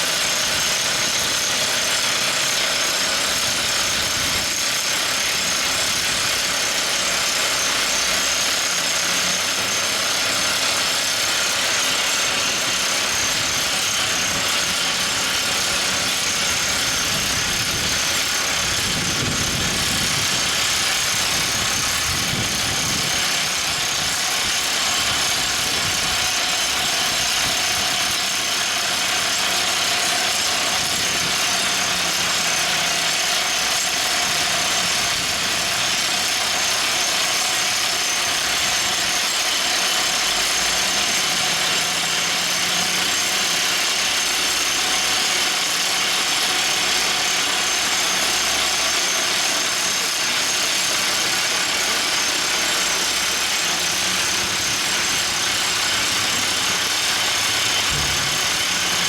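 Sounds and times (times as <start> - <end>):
drill rig running: 0.0 - 59.0.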